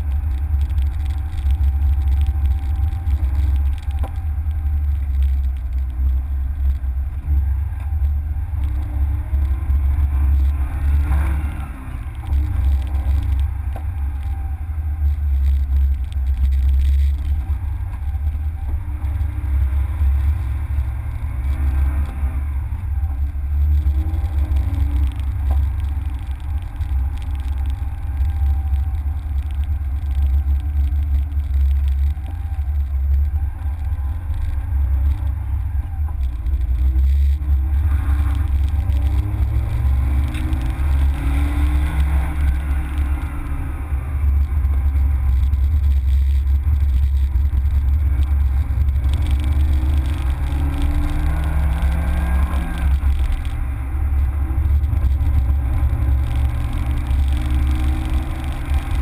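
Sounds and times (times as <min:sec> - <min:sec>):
car engine revving: 0:00.0 - 0:59.0
low rumble: 0:00.0 - 0:59.0.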